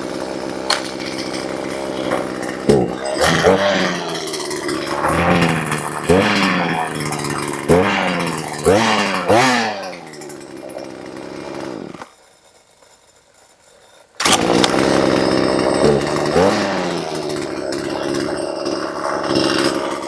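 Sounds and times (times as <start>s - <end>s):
chainsaw engine revving: 0.0s - 12.2s, 14.2s - 20.0s.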